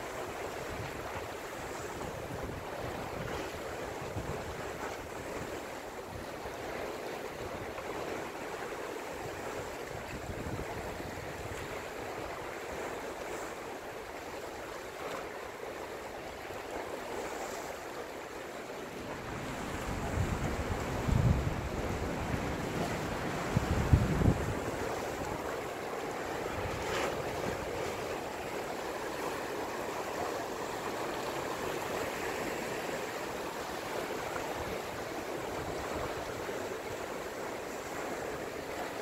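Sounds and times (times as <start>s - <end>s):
sea waves breaking on rocks: 0.0s - 39.0s.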